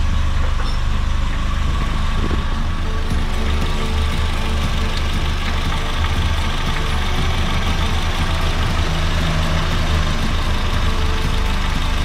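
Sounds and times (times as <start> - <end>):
air conditioning compressor running: 0.0 - 12.0
car engine idling: 0.0 - 12.0.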